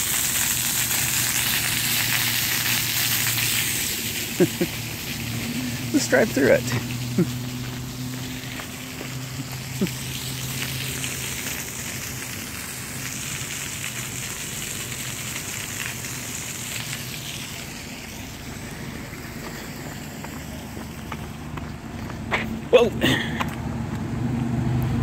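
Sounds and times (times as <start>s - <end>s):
water spray hissing from sprinkler: 0.0s - 23.3s.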